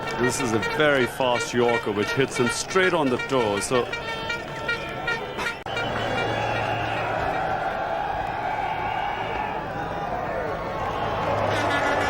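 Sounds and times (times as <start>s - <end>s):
stadium crowd din: 0.0s - 12.0s.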